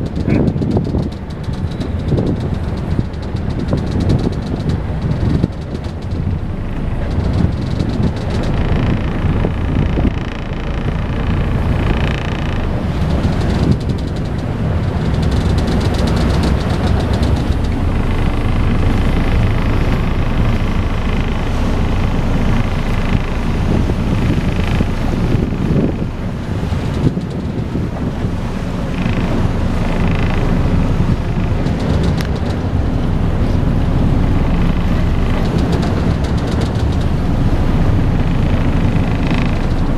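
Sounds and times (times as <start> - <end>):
boat engines rumbling: 0.0 - 39.9
wind buffeting microphone: 0.0 - 39.9.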